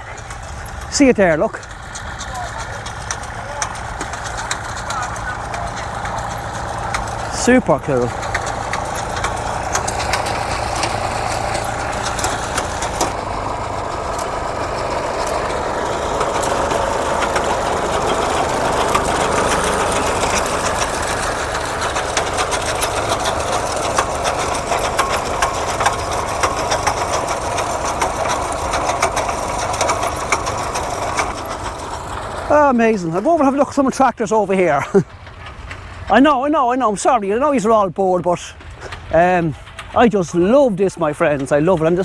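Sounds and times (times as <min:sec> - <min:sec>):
light clicks and rattles: 0:00.0 - 0:42.0
tractor engine running: 0:00.0 - 0:42.0.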